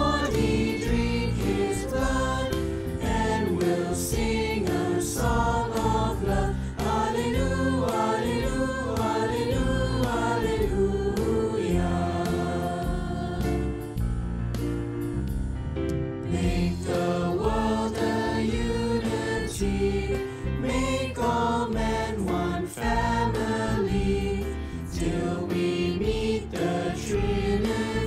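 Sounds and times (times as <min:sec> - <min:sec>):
choir singing a hymn: 0:00.0 - 0:13.9, 0:16.3 - 0:28.0
instrumental accompaniment: 0:00.0 - 0:28.0.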